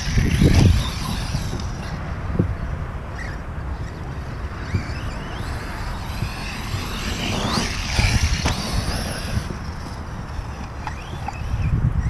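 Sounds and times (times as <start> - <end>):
electric motor whine: 0.0 - 12.0
wind on microphone: 0.0 - 12.0.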